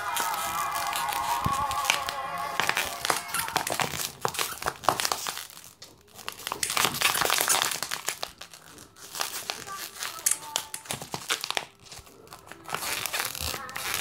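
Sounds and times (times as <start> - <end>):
dog chewing crinkly plush toy: 0.0 - 14.0.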